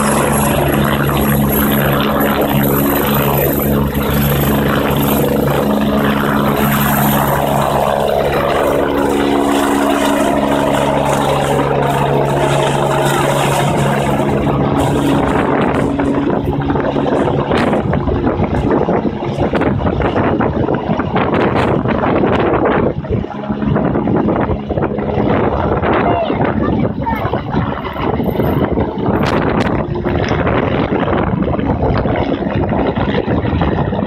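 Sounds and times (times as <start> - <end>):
helicopter rotor and turbine: 0.0 - 34.0
wind buffeting microphone: 0.0 - 34.0.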